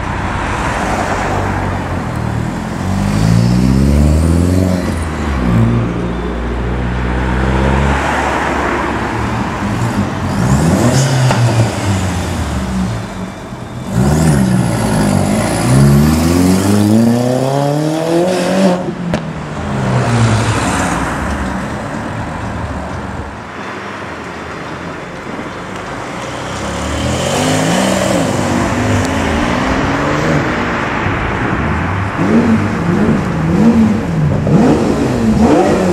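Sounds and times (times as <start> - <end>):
car engines revving: 0.0 - 35.9.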